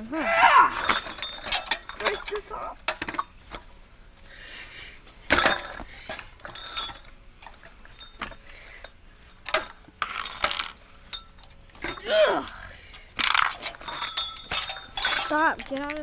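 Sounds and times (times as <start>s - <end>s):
metal fan parts clinking: 0.0s - 16.0s.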